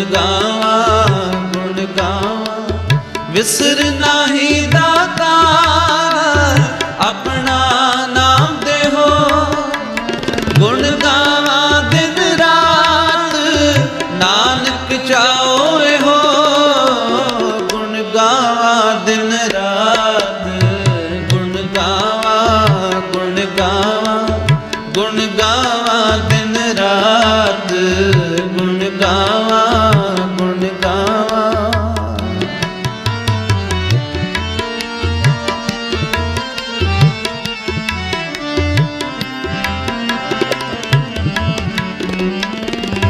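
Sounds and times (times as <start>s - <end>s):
tabla strokes: 0.0s - 43.0s.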